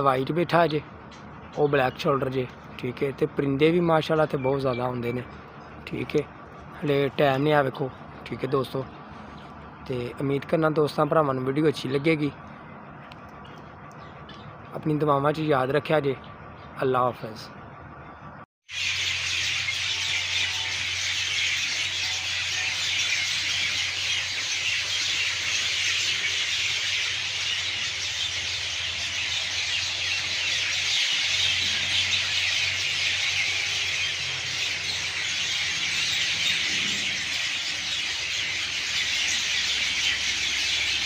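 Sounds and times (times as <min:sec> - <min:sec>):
chorus of birds calling: 0:00.0 - 0:18.1, 0:18.7 - 0:41.0.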